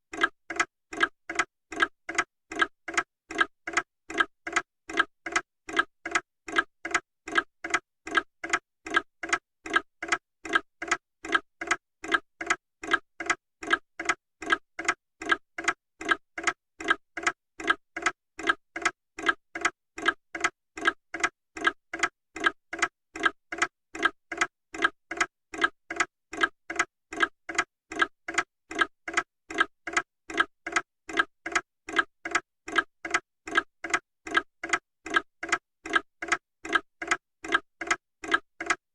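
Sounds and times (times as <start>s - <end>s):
mechanical clock ticking: 0.1s - 38.8s.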